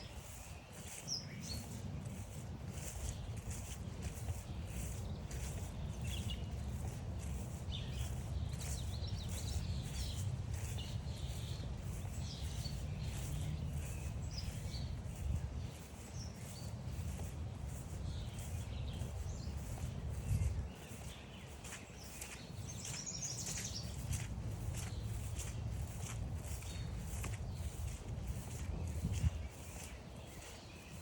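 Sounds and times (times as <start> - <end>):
birds chirping and trilling: 0.0 - 31.0
walking footsteps: 0.0 - 31.0.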